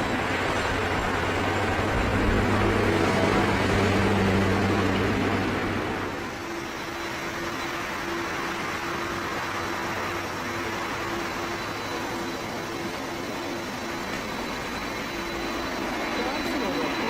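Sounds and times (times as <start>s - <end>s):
aircraft engine rushing hiss: 0.0s - 17.0s.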